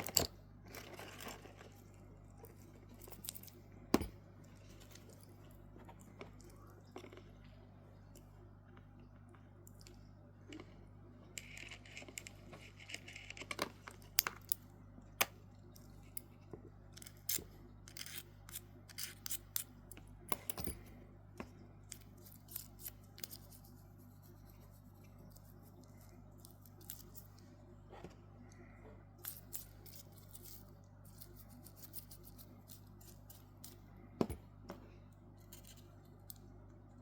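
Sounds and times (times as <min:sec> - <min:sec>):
light scraping of small parts: 0:00.0 - 0:07.3, 0:11.3 - 0:14.6, 0:15.7 - 0:36.5
steady low hum: 0:00.0 - 0:37.0.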